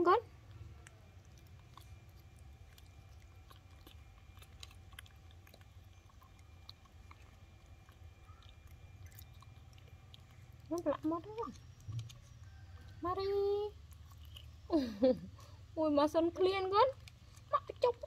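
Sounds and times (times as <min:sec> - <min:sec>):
low background hum: 0:00.0 - 0:18.0
monkeys eating clicks and smacks: 0:00.0 - 0:18.0.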